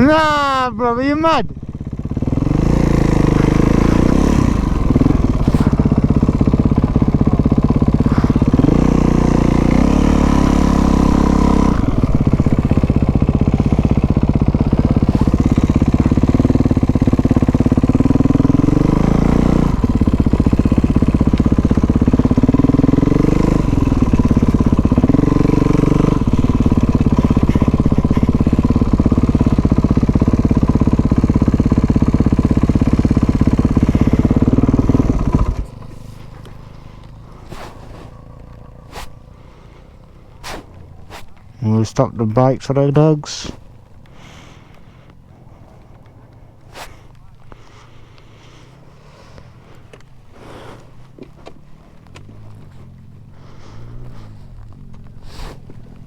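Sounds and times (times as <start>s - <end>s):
dirt bike engine shifting gears: 0.0s - 56.0s.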